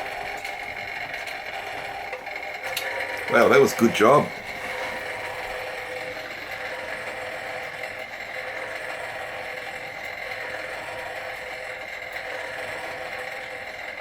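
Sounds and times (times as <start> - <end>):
stirling engine mechanical whir: 0.0 - 14.0.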